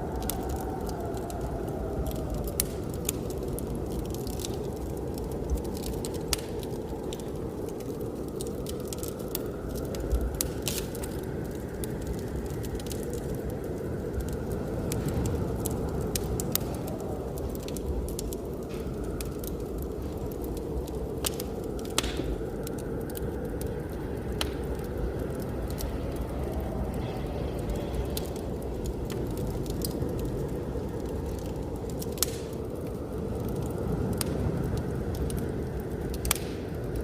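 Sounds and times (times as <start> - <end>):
blizzard wind rushing: 0.0 - 37.0
wood fire crackling: 0.0 - 37.0.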